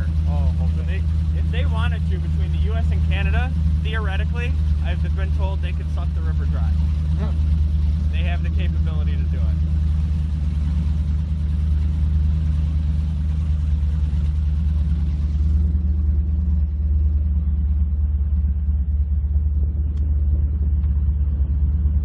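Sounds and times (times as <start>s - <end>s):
powerboat engines rumbling: 0.0s - 22.0s.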